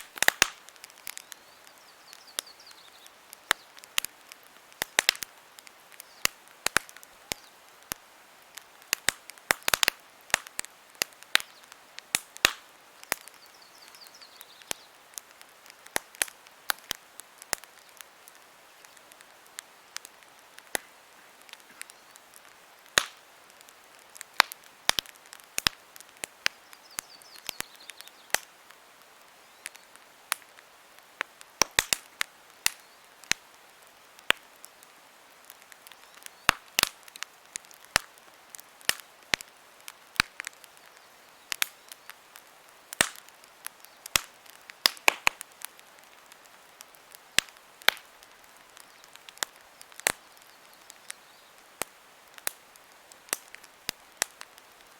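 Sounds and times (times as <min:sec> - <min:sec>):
campfire crackling and popping: 0:00.0 - 0:54.9
soft steady hiss: 0:00.0 - 0:54.9.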